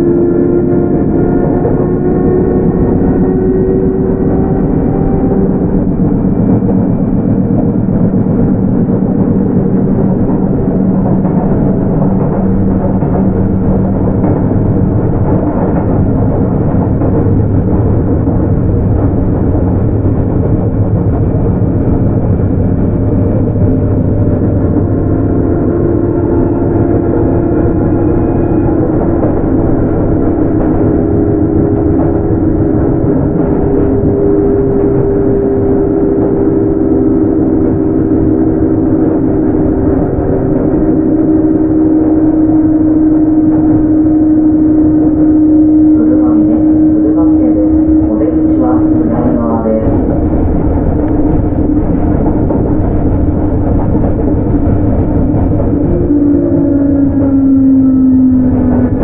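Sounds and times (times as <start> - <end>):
train motor humming tones: 0.0 - 59.0
train wheels rumbling on rail: 0.0 - 59.0.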